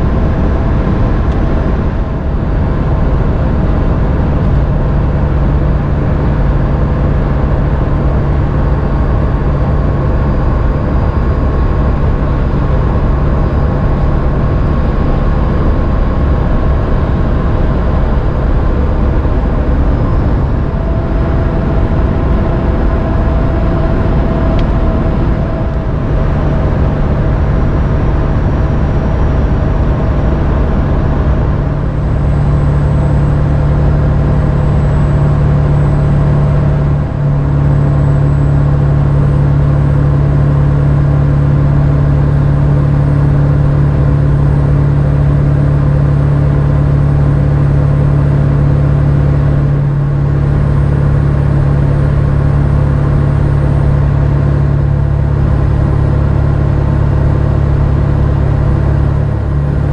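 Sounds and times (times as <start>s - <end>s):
diesel truck engine cruising: 0.0s - 59.9s.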